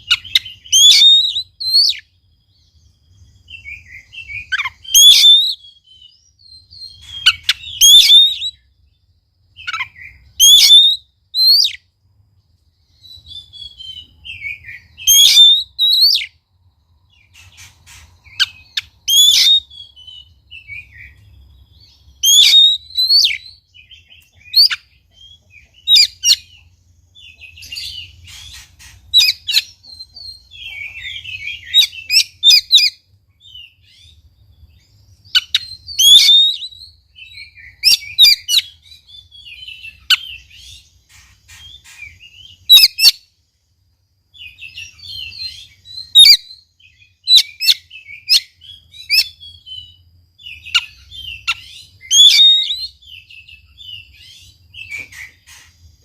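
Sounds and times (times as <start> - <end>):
bird whistling and chirping: 0.0 - 11.9, 12.8 - 16.4, 17.1 - 43.3, 44.3 - 56.0.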